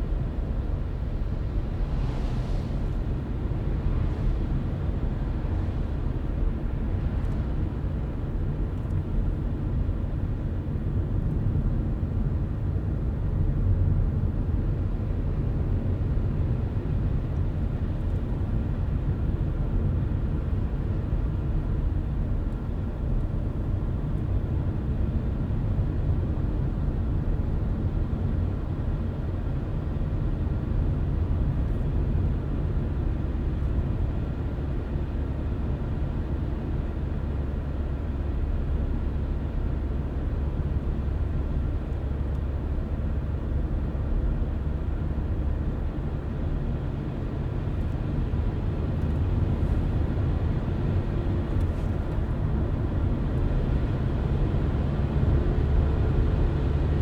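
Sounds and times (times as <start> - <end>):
faint engine hum: 0.0 - 57.0
road and engine rumble: 0.0 - 57.0.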